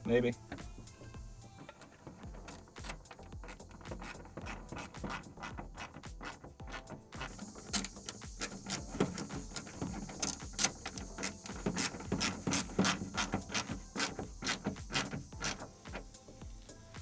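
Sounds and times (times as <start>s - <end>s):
ratchet wrench clicking: 0.3s - 16.9s.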